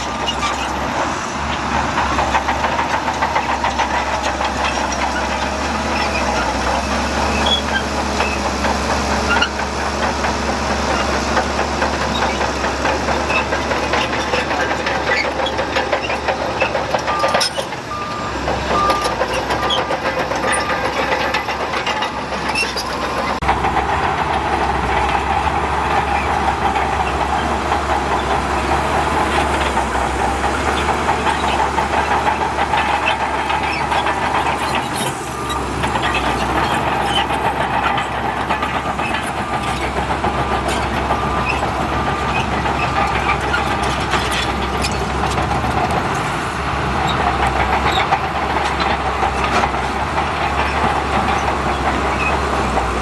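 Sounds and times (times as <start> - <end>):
clanks and clicks: 0.0 - 53.0
diesel earthmoving machinery running: 0.0 - 53.0.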